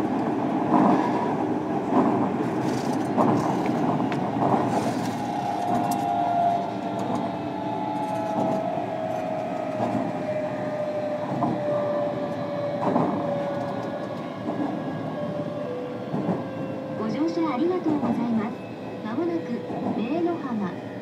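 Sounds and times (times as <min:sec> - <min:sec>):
train wheel and rail noise: 0:00.0 - 0:21.0.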